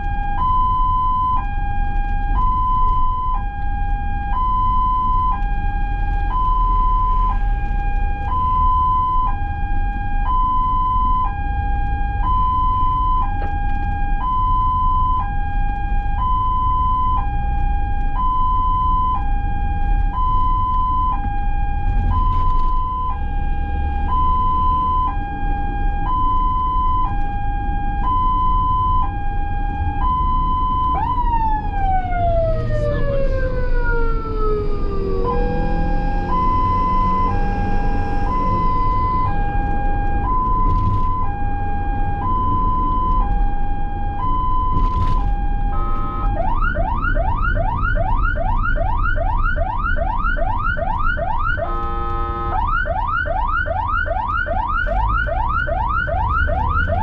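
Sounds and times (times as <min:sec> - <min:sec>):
ambulance siren: 0:00.0 - 0:57.0
road and engine rumble: 0:00.0 - 0:57.0.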